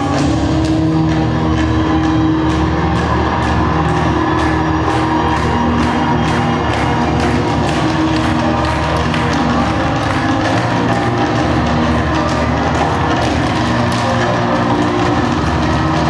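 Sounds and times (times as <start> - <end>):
loud music with sustained chords: 0.0 - 16.0.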